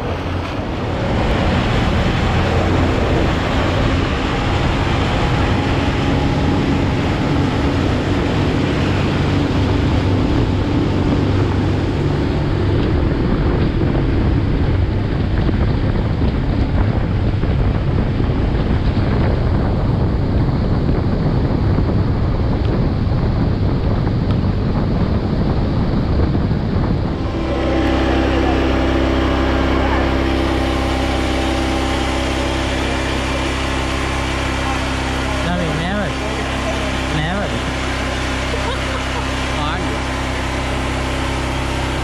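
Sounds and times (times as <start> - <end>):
water rushing past hull: 0.0 - 20.7, 24.5 - 42.0
motorboat engine drone: 0.0 - 42.0
wind buffeting microphone: 0.0 - 42.0.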